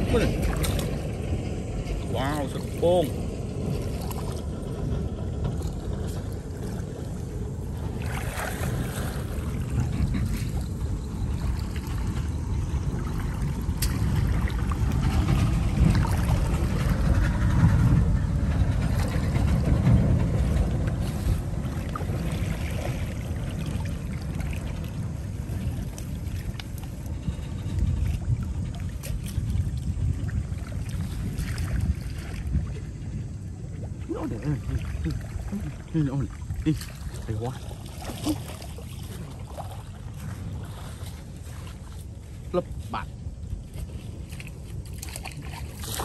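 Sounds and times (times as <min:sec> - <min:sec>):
water sloshing and splashing: 0:00.0 - 0:46.0
wind rumble on microphone: 0:00.0 - 0:46.0.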